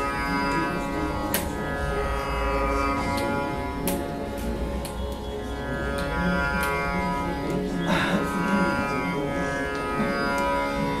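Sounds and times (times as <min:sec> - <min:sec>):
many-toned string drone: 0:00.0 - 0:11.0.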